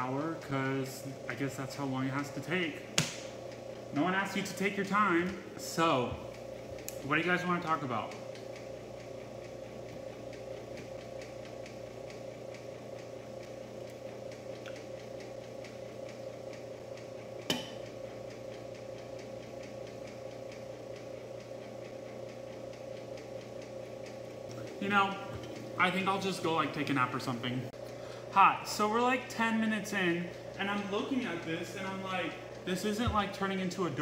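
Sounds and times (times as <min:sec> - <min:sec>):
bread machine motor hum: 0:00.0 - 0:34.0.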